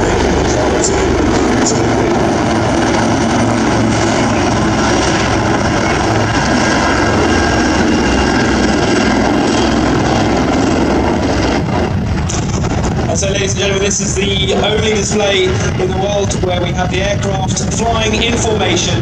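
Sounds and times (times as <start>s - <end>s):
helicopters flying past: 0.0s - 19.0s.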